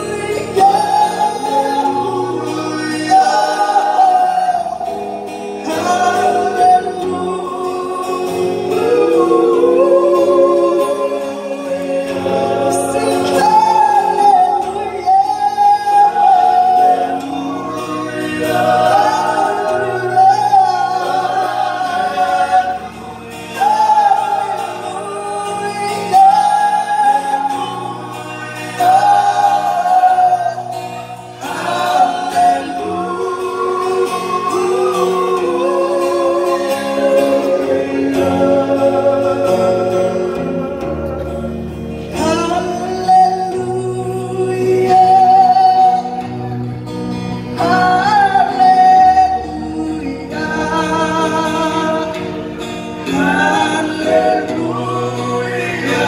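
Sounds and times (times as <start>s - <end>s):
male voices singing in harmony: 0.0s - 56.0s
man singing into a microphone: 0.0s - 56.0s
strummed acoustic guitar: 0.0s - 56.0s.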